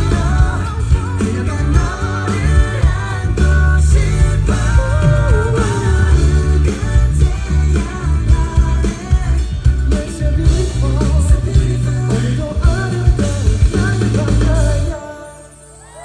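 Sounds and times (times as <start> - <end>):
live pop-rock band with singing: 0.0 - 16.0.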